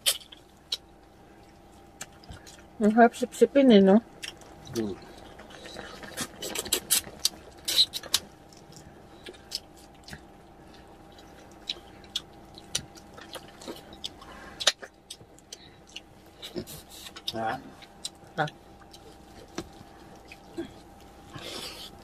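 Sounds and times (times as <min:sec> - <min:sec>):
chewing and sucking noises: 0:00.0 - 0:02.8, 0:04.1 - 0:22.0.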